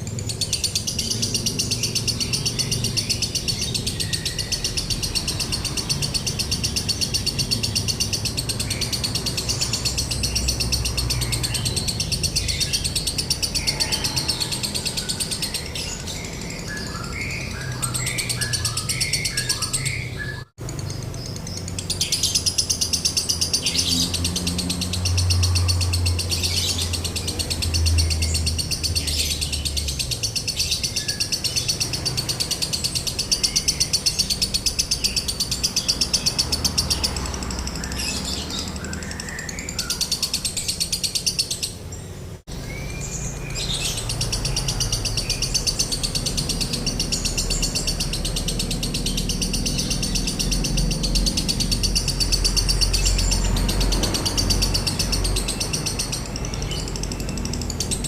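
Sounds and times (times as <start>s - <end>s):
lovebird chattering trills: 0.0s - 58.0s.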